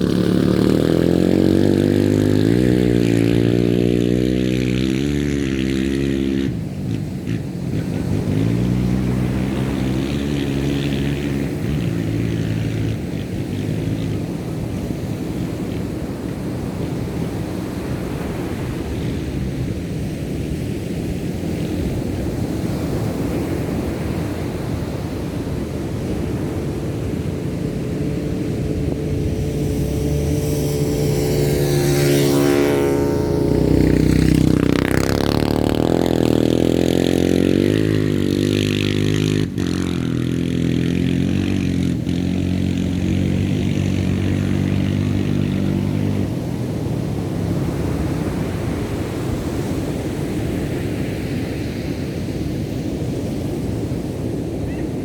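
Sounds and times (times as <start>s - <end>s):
engine running: 0.0s - 55.0s
surf washing: 0.0s - 55.0s.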